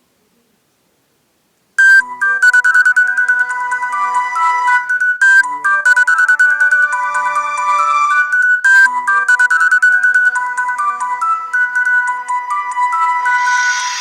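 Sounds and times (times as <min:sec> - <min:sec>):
mobile phone ringtone melody: 0:01.8 - 0:14.0.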